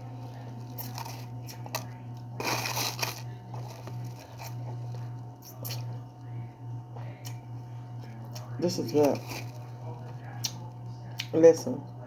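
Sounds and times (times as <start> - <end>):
chewing crunchy ice: 0.1 - 6.2, 7.2 - 11.3.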